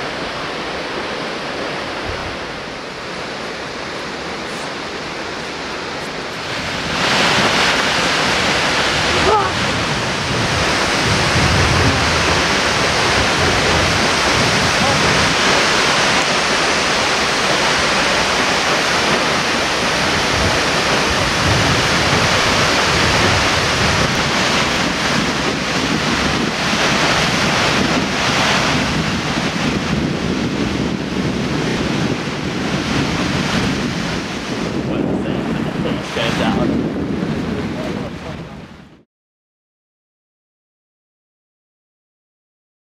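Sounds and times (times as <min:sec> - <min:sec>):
waterfall rushing: 0:00.0 - 0:36.6
wind buffeting microphone: 0:00.0 - 0:39.0.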